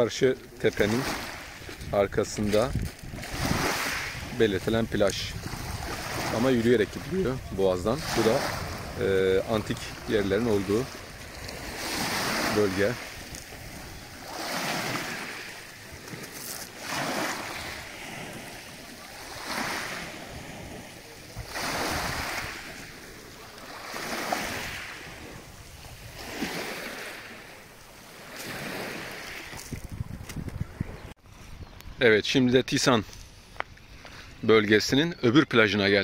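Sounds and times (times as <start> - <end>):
waves washing onto pebbles: 0.6 - 29.8.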